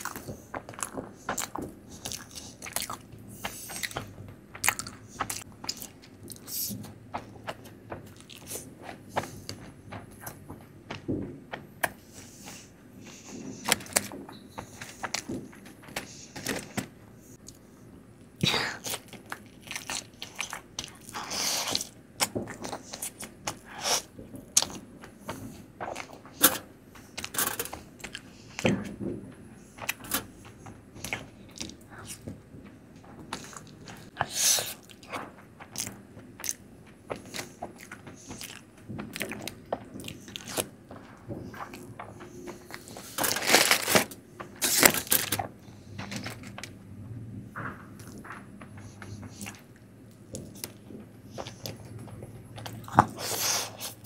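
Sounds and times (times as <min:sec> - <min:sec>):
biting and chewing: 0:00.0 - 0:17.6, 0:18.4 - 0:29.0, 0:29.6 - 0:46.7, 0:47.9 - 0:54.0.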